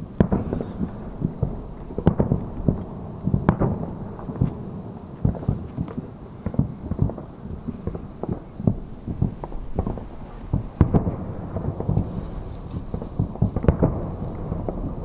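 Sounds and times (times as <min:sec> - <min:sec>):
distant fireworks booms: 0:00.0 - 0:15.0.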